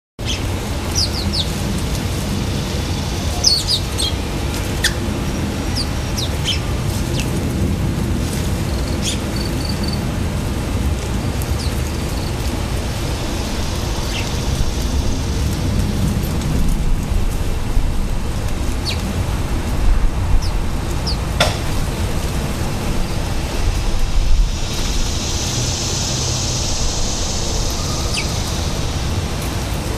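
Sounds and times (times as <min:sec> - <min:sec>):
songbirds chirping: 0:00.2 - 0:07.4, 0:11.3 - 0:29.9
steady low rumble: 0:00.2 - 0:29.9.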